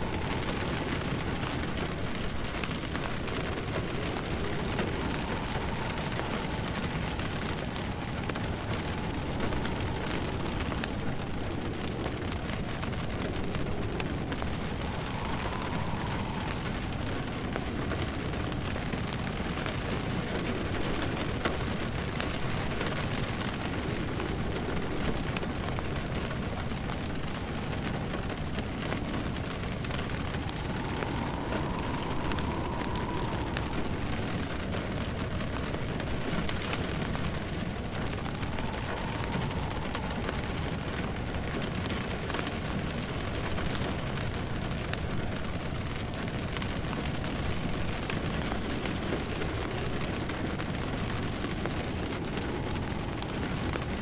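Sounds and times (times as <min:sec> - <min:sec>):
steady rain falling: 0:00.0 - 0:54.0
wood fire crackling and popping: 0:00.0 - 0:54.0.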